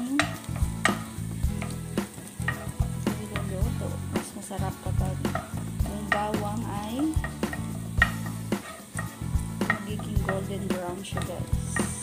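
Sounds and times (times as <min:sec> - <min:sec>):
garlic sizzling in hot oil: 0:00.0 - 0:12.0
spatula scraping and tapping pan: 0:00.0 - 0:12.0.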